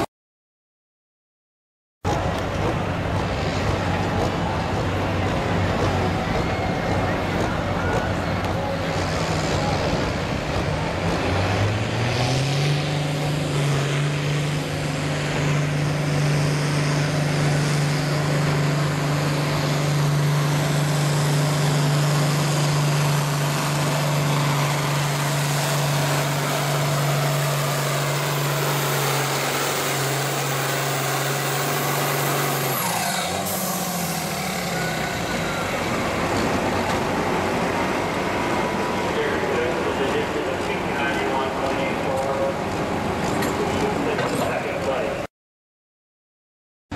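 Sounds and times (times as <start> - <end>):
tractor engine at full throttle: 2.0 - 45.3.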